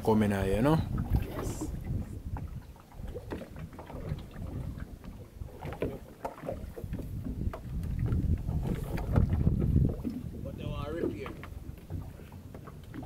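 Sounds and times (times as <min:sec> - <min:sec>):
water lapping against hull: 0:00.0 - 0:13.0
wind on microphone: 0:00.0 - 0:13.0.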